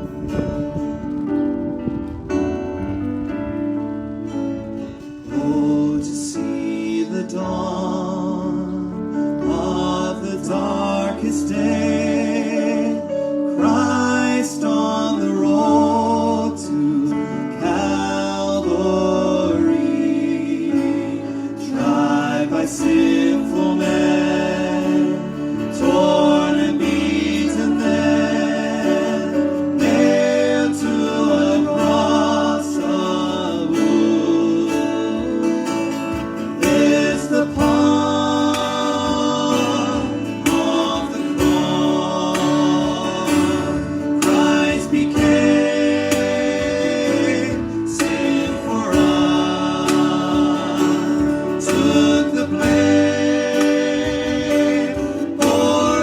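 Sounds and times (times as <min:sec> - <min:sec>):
guitar-led band: 0:00.0 - 0:56.0
voices singing worship song: 0:04.0 - 0:56.0.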